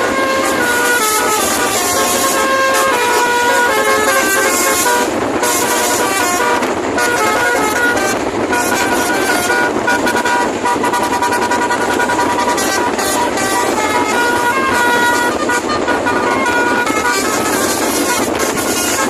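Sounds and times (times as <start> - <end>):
musical horn playing a tune: 0.0 - 19.0.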